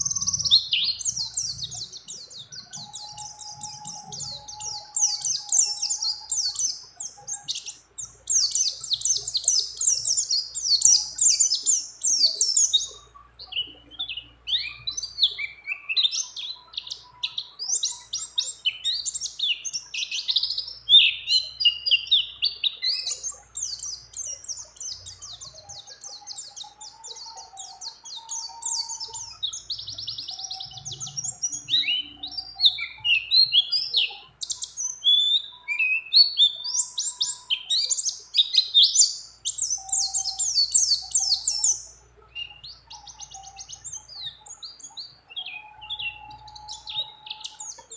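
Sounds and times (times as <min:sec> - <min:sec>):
bird singing high chirping trills: 0:00.0 - 0:47.9.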